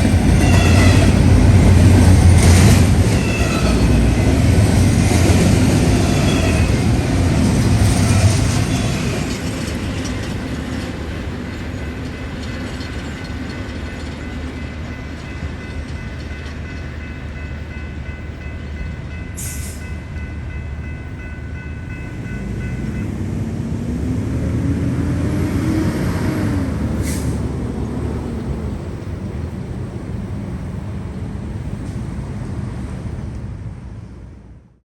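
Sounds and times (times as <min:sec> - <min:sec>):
freight train rolling on rails: 0:00.0 - 0:34.6.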